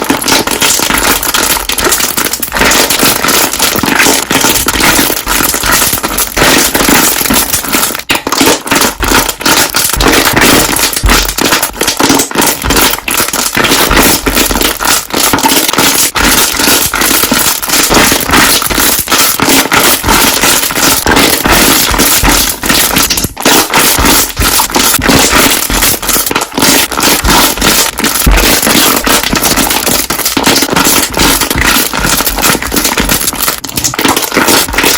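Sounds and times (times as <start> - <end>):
air bubbles popping: 0.0 - 34.9.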